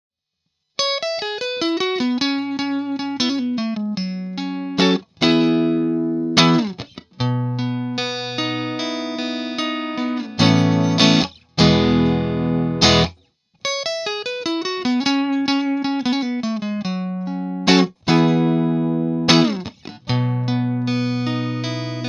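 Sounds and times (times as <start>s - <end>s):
electric guitar playing: 0.8s - 22.0s.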